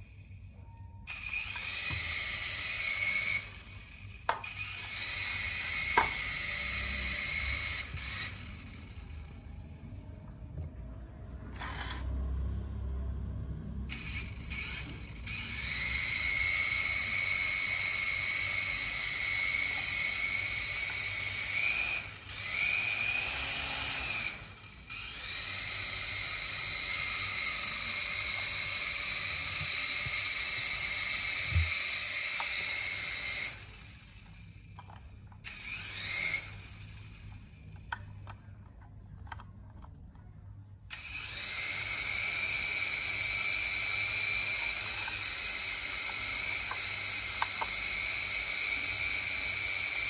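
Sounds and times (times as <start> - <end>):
toy helicopter motors whining: 0.0 - 0.4, 1.0 - 10.2, 11.5 - 12.2, 13.9 - 39.8, 40.9 - 50.0.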